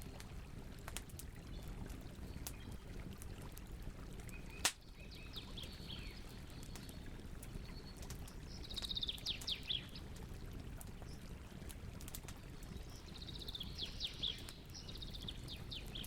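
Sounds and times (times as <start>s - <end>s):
campfire crackling: 0.0s - 16.0s
songbirds chirping: 1.4s - 11.6s, 12.3s - 16.0s.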